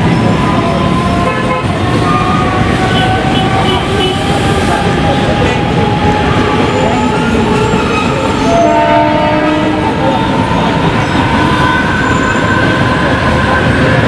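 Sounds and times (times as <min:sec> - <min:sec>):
train wheels rushing on rail: 0:00.0 - 0:14.0.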